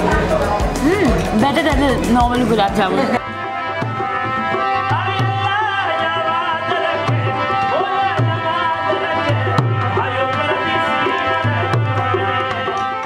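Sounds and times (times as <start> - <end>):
harmonium drone and melody: 0.0 - 13.0.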